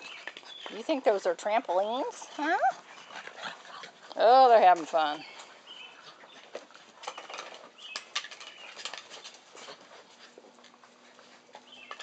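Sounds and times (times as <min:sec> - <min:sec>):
puppy claws pattering on concrete: 0:00.0 - 0:12.0.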